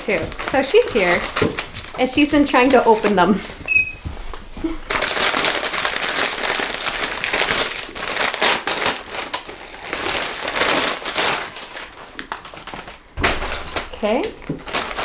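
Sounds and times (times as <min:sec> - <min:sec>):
paper crinkling and tearing: 0:00.0 - 0:03.6, 0:04.8 - 0:15.0.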